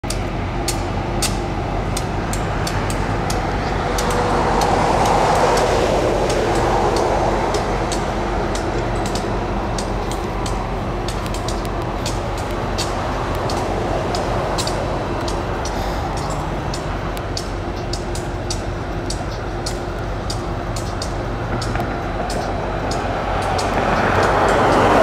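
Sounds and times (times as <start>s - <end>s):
diesel locomotives idling: 0.0s - 25.0s
light rail train rolling: 0.0s - 25.0s
sharp clicks: 0.0s - 25.0s.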